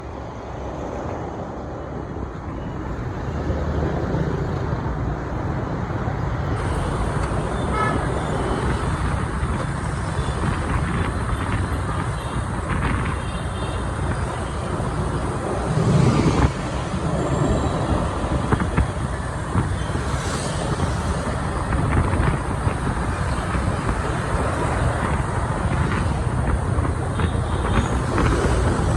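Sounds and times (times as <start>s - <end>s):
city street traffic: 0.0s - 28.9s.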